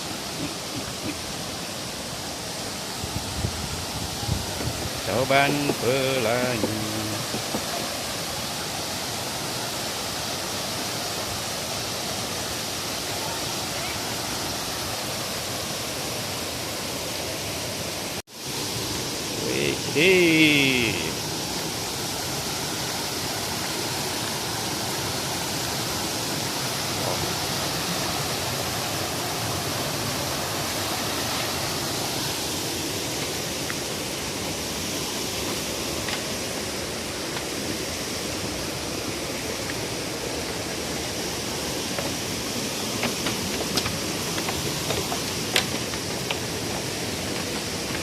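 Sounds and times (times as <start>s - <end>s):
waterfall and river rushing: 0.0s - 48.0s.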